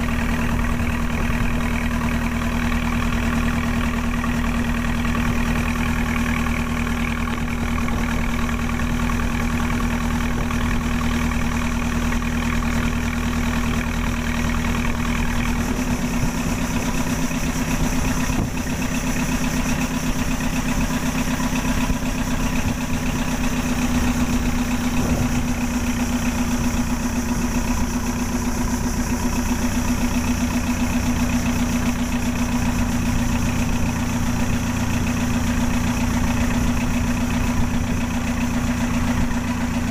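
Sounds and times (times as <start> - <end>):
motorboat engine humming: 0.0 - 39.9.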